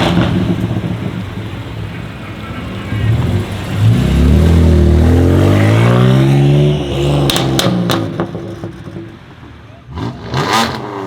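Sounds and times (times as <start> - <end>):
car engine accelerating hard: 0.0 - 8.9
exhaust bangs: 0.0 - 11.0.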